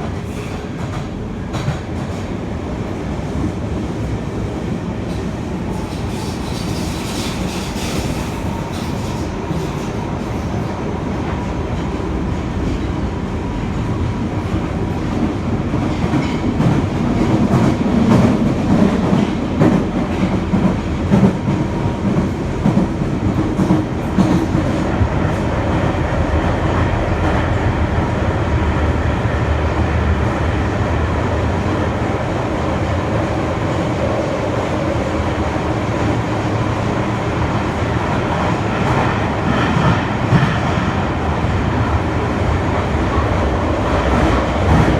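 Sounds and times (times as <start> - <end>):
subway wheels rumbling on rail: 0.0 - 44.9.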